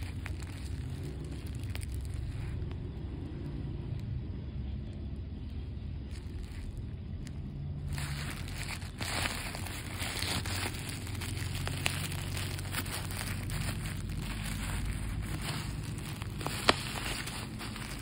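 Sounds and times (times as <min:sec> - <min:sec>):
plastic bag snapping: 0:00.0 - 0:02.7, 0:06.1 - 0:18.0
plastic bag crinkling: 0:00.0 - 0:02.8, 0:06.0 - 0:18.0.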